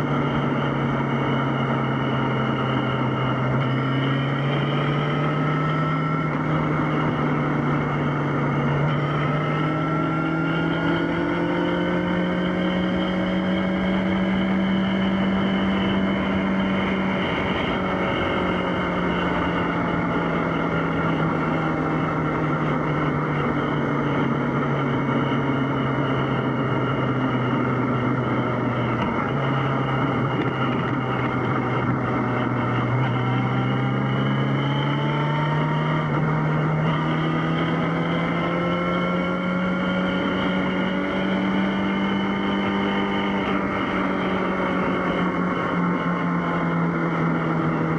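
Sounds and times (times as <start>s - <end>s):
motorcycle engine running: 0.0s - 47.9s
wind noise: 0.0s - 47.9s.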